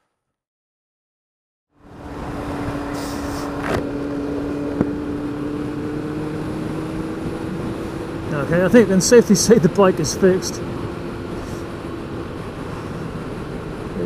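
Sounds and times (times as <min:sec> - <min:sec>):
road noise: 0:01.7 - 0:14.0.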